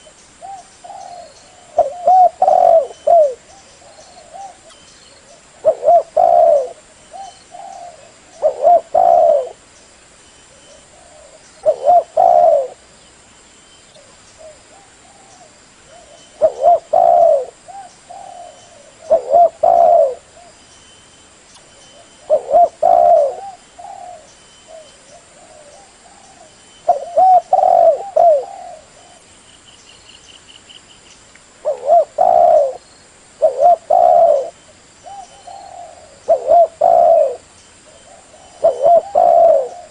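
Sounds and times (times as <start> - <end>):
dove cooing: 0.0 - 9.6, 10.6 - 12.8, 14.0 - 20.6, 21.9 - 29.3, 31.6 - 32.8, 33.4 - 39.9.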